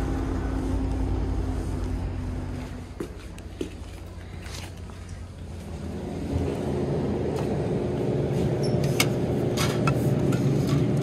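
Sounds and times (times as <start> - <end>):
drink cooler humming: 0.0 - 11.0.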